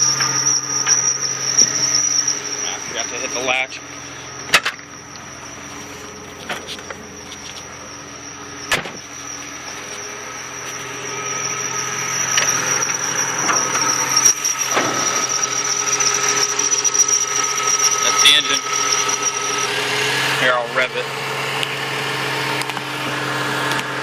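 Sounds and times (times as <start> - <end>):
high-pitched squeal: 0.0 - 24.0
pickup engine idling: 0.0 - 24.0.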